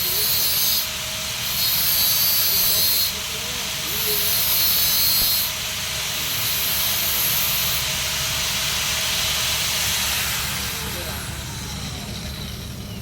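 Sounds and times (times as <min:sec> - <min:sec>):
welding arc hissing and crackling: 0:00.0 - 0:12.8.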